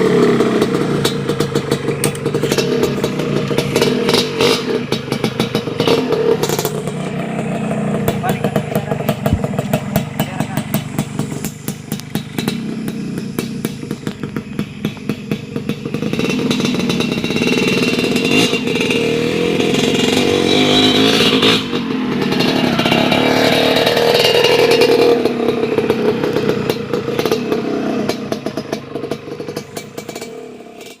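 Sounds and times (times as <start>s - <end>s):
two-stroke engine popping and revving: 0.0s - 31.0s.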